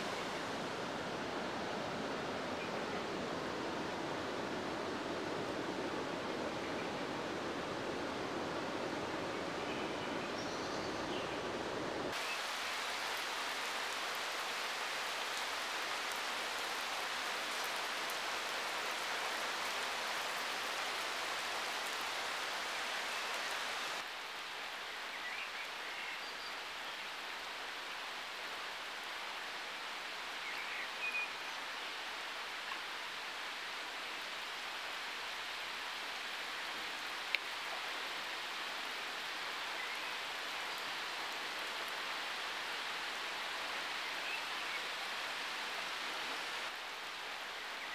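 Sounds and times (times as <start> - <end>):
rain falling on water: 0.0 - 47.9.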